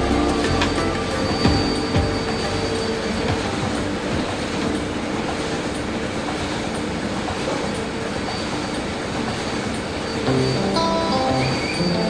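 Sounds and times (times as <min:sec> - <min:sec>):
milking machinery rumble and clatter: 0:00.0 - 0:12.0.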